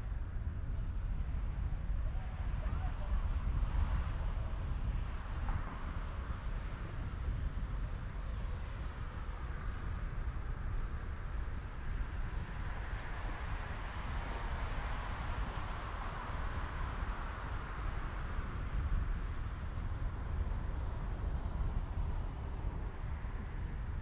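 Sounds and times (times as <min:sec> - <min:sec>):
bike tyres rolling on asphalt: 0:00.0 - 0:24.0
wind rumble on microphone: 0:00.0 - 0:24.0.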